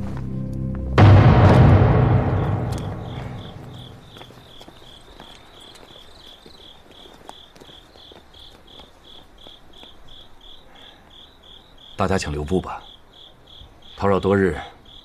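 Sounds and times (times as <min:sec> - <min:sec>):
crickets chirping: 0:01.9 - 0:15.0.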